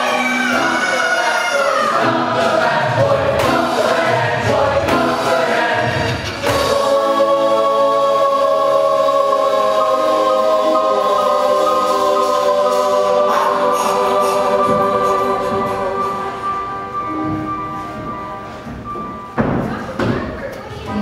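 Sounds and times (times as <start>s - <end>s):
ensemble singing in chorus: 0.0s - 18.1s
instrumental accompaniment: 0.0s - 21.0s.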